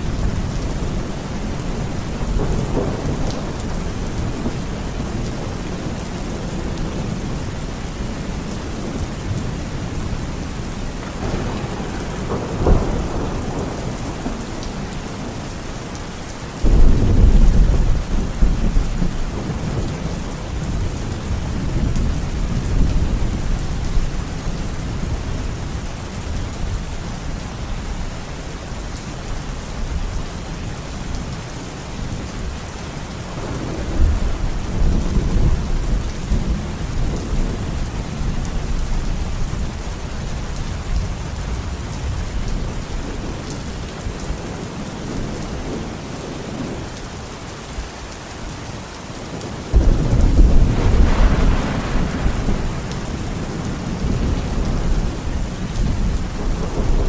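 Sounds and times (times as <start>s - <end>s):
low rolling thunder: 0.0s - 15.4s, 16.6s - 26.9s, 33.3s - 46.8s, 49.4s - 57.0s
heavy rain: 0.0s - 57.0s.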